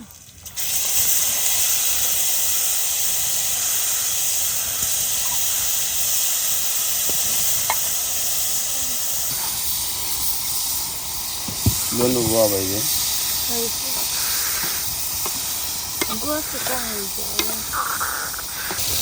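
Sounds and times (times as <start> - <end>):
food sizzling in a hot pan: 0.0 - 19.0.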